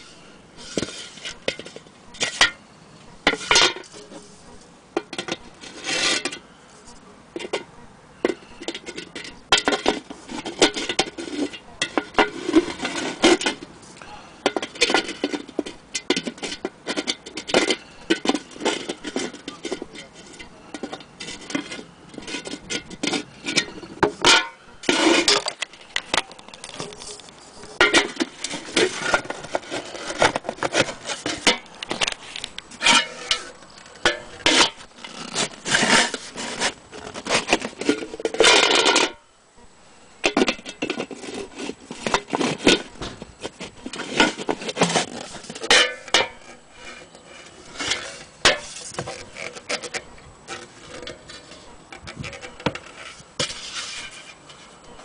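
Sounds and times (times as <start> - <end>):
rubbing and scraping on metal: 0.0 - 39.3, 40.2 - 55.0.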